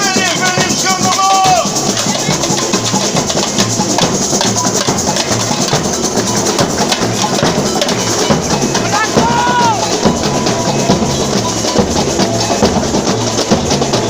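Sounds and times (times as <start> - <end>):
samba drum corps playing: 0.0 - 14.0.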